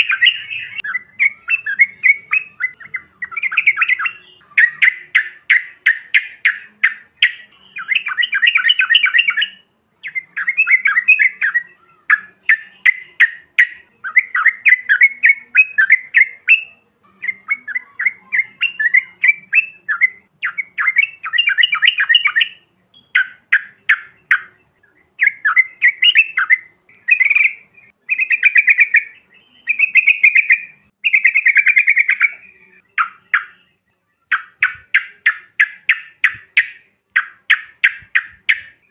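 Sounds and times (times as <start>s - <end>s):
birds singing chattering phrases: 0.0s - 38.9s.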